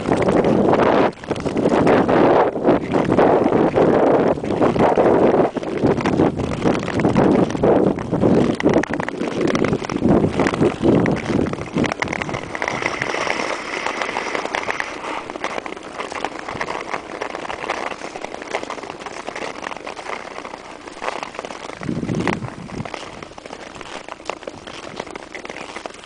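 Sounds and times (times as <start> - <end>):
ice skates scraping on ice: 0.0 - 26.0.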